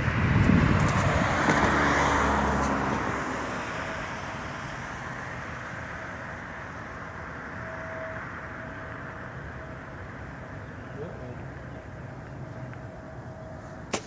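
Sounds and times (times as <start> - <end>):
vehicle engine passing: 0.0 - 13.9
background traffic hum: 0.0 - 14.0.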